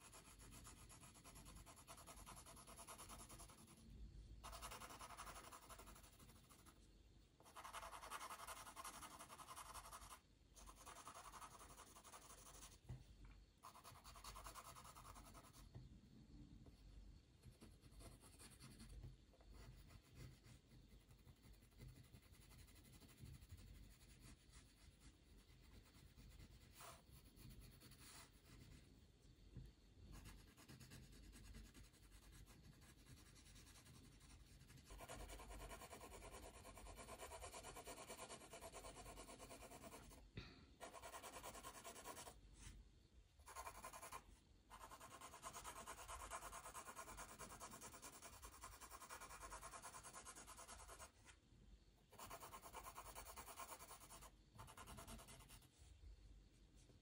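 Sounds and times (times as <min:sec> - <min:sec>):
pencil scratching on paper: 0:00.0 - 0:03.8, 0:04.4 - 0:06.8, 0:07.4 - 0:12.8, 0:13.6 - 0:15.7, 0:17.4 - 0:28.8, 0:30.1 - 0:40.2, 0:40.8 - 0:42.7, 0:43.4 - 0:51.2, 0:52.1 - 0:55.7.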